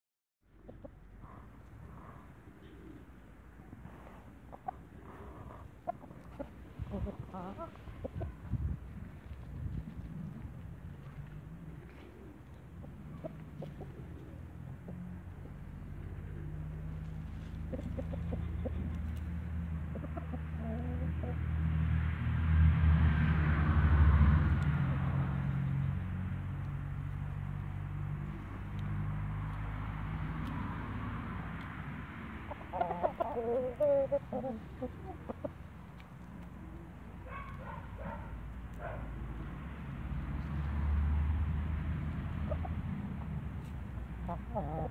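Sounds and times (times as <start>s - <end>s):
roosters clucking: 0.5s - 21.8s, 26.4s - 40.8s, 41.4s - 44.9s.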